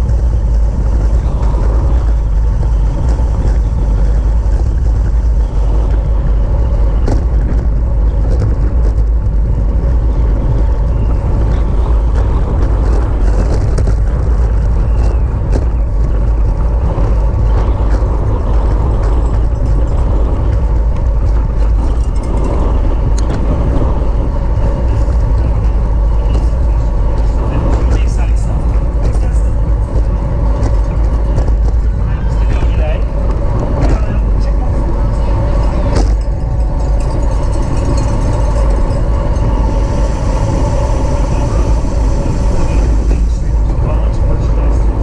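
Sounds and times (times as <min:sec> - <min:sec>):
tyre and road noise: 0:00.0 - 0:45.0
wind rumble on microphone: 0:00.0 - 0:45.0.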